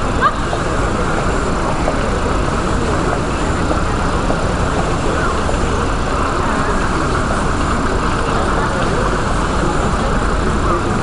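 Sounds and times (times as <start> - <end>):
distant city traffic hum: 0.0 - 11.0
harbour noise: 0.0 - 11.0.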